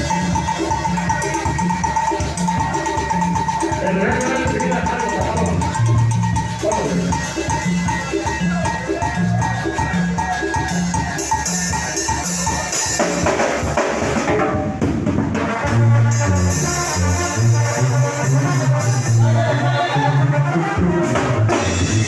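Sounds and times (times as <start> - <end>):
music with drums and bass beat: 0.0 - 22.0.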